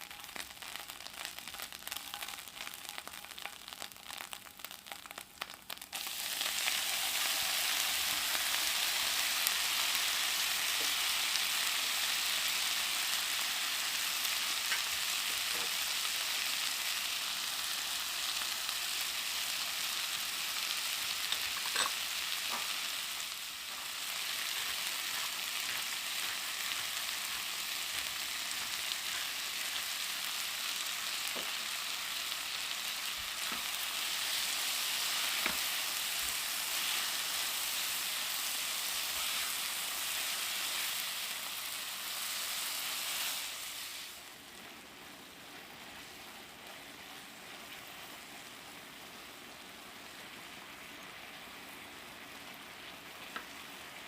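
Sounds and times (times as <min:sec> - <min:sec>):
sizzling hiss: 0:00.0 - 0:54.0.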